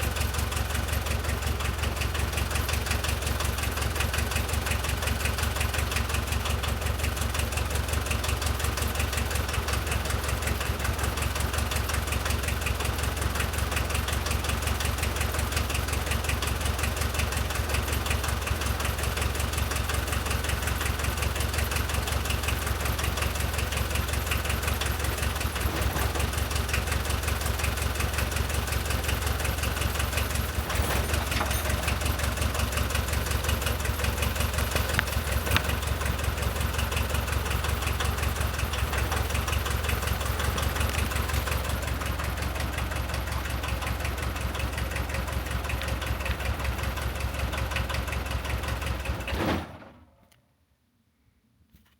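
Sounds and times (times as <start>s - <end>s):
diesel engine idling: 0.0s - 49.3s.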